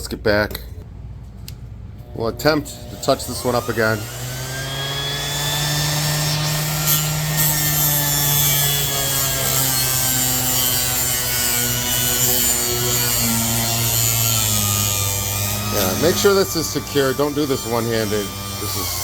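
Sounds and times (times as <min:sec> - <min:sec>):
orbital sander motor hum: 0:02.1 - 0:19.0
rasping sanding on steel: 0:03.0 - 0:19.0.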